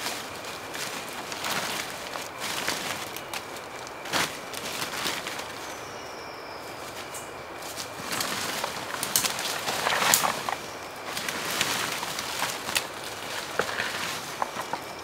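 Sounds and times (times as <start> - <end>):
crackling and rustling: 0.0 - 6.0, 6.6 - 15.0.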